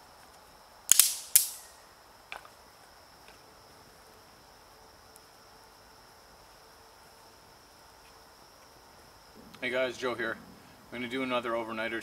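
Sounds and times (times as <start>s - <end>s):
insects humming: 0.0s - 12.0s.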